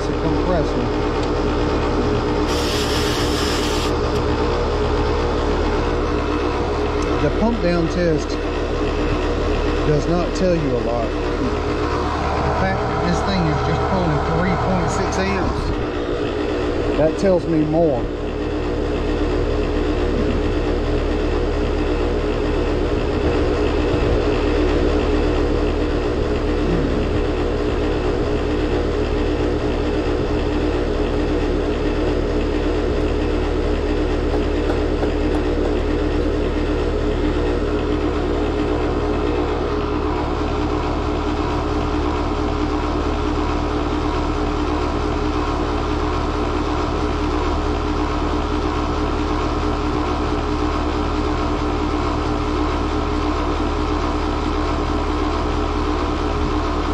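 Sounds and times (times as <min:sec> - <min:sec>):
rough compressor running: 0:00.0 - 0:56.9.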